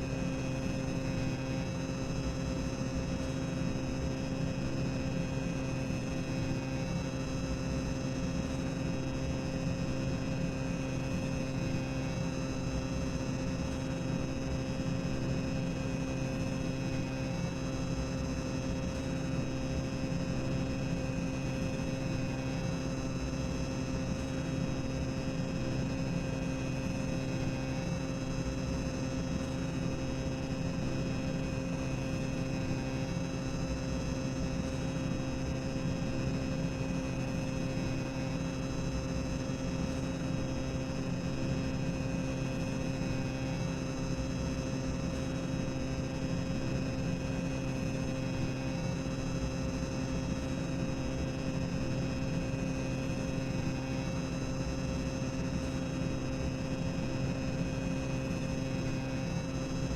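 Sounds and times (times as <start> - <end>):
constant hum: 0.0 - 59.9.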